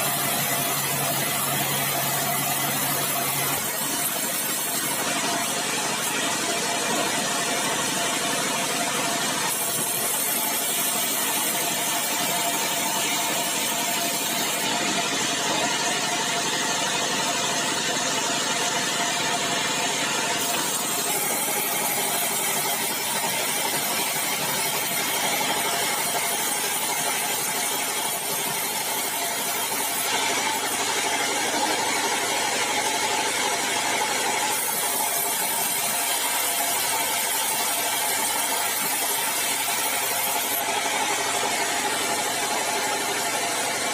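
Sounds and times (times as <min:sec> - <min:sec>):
bandsaw running: 0:00.0 - 0:43.9.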